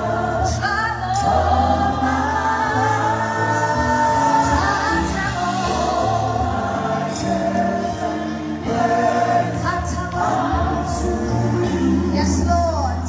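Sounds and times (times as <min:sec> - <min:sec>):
band playing: 0:00.0 - 0:13.0
choir voices: 0:00.0 - 0:13.0
woman singing lead: 0:00.0 - 0:13.0.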